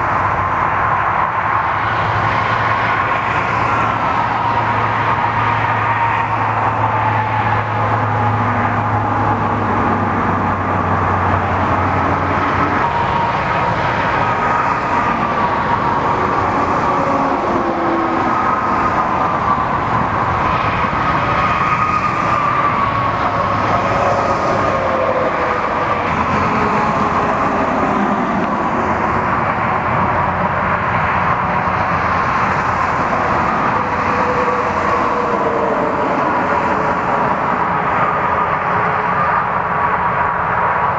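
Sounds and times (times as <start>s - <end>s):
road traffic roar: 0.0s - 40.9s
vehicle engines idling: 0.0s - 40.9s.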